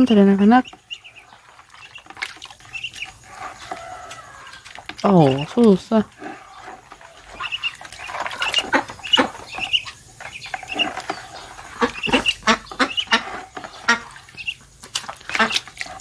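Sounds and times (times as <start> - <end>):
young ducks peeping and quacking: 0.0 - 16.0.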